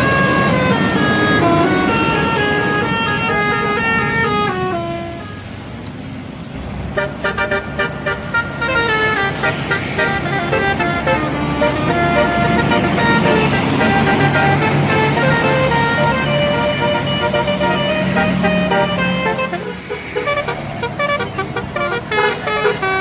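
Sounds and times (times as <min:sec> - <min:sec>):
multi-tone musical air horn: 0:00.0 - 0:05.5, 0:07.0 - 0:23.0.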